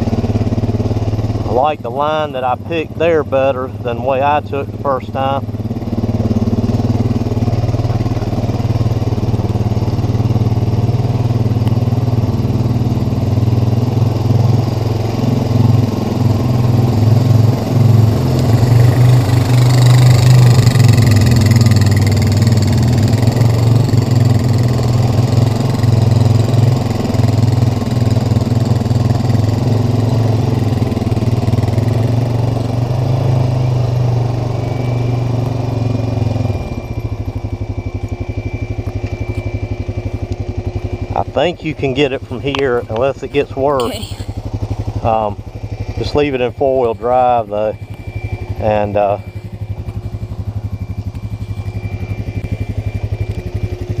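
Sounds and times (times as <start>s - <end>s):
atv engine running under load: 0.0s - 54.0s.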